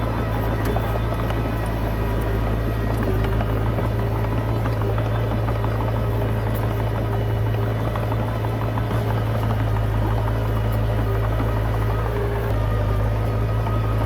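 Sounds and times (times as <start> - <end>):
bulldozer diesel engine drone: 0.0 - 14.0.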